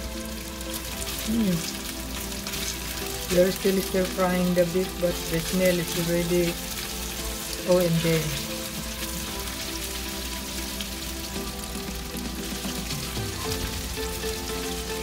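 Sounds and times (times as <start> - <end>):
background music: 0.0 - 15.0
beef sizzling in a pan: 0.0 - 15.0.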